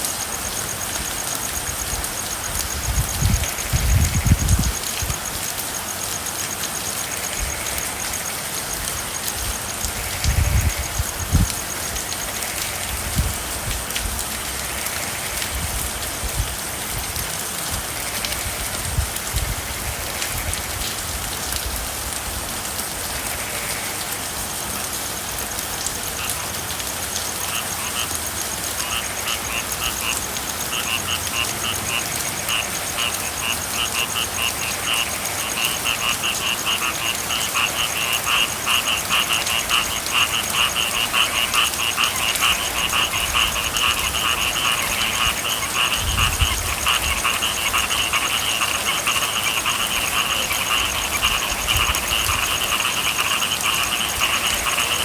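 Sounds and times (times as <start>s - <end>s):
frogs calling in trills: 0.0s - 21.6s, 22.8s - 55.0s
steady rain: 0.0s - 55.0s.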